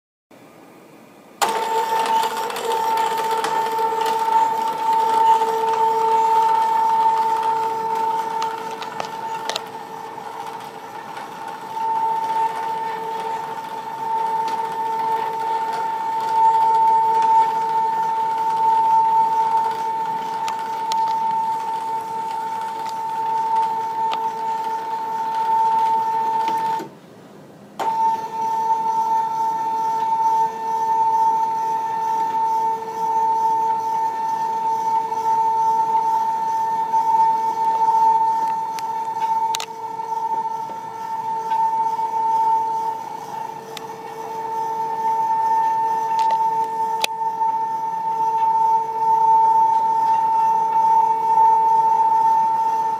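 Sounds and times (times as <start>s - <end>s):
stepper motor whining: 1.4s - 26.9s, 27.8s - 52.9s.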